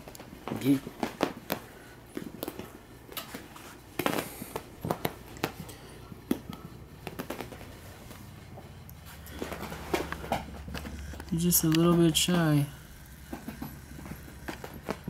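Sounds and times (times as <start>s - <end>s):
puppies scampering on carpet: 0.0s - 15.0s.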